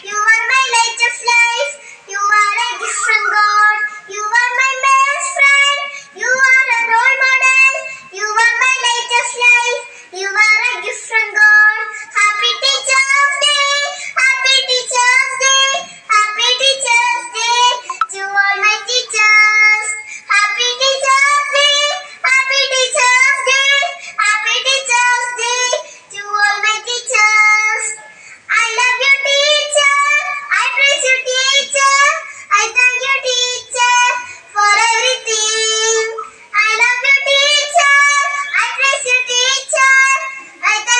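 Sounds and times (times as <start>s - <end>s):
child singing: 0.0s - 40.9s.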